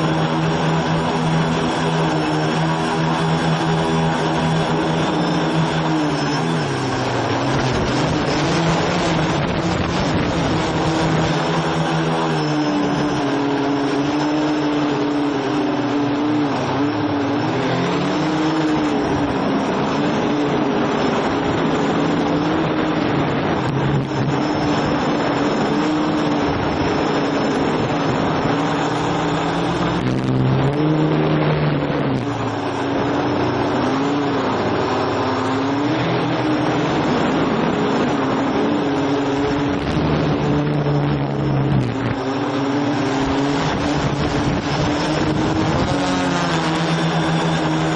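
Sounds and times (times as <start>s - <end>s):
drone motors whining: 0.0s - 47.9s.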